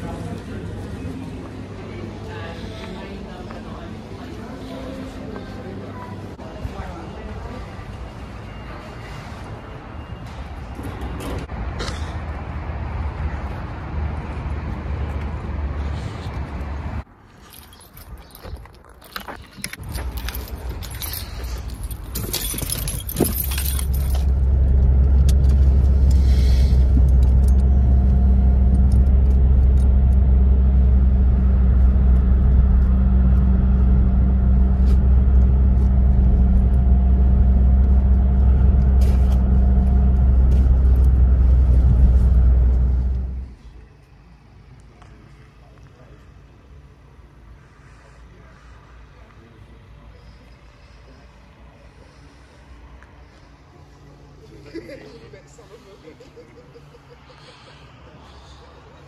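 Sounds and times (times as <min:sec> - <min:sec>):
outdoor traffic noise: 0:00.0 - 0:59.0
road and engine drone in car: 0:00.0 - 0:59.0.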